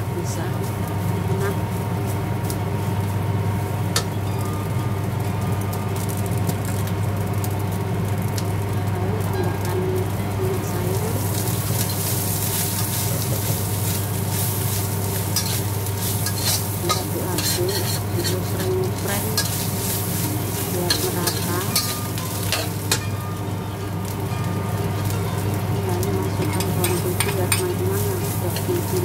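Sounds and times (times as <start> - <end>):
food sizzling in hot oil: 0.0 - 29.0
steady low hum: 0.0 - 29.0.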